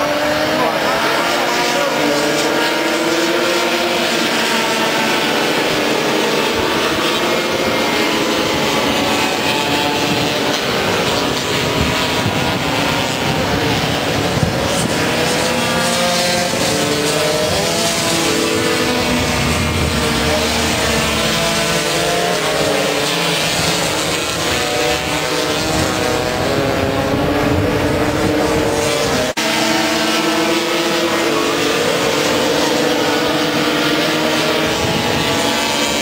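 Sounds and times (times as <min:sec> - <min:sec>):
racing scooter engines buzzing: 0:00.0 - 0:36.0.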